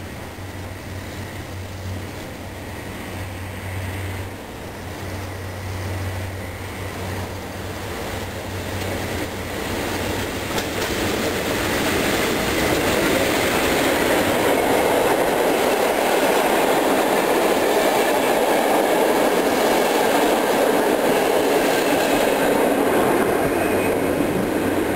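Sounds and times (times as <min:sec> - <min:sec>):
train wheels rushing on rails: 0:00.0 - 0:24.9.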